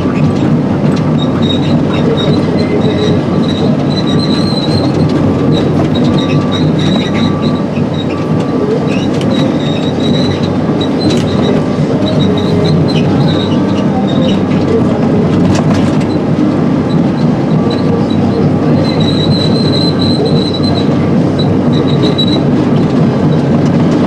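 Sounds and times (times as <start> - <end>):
excavator diesel engine: 0.0 - 24.0
tracks squealing: 0.0 - 24.0.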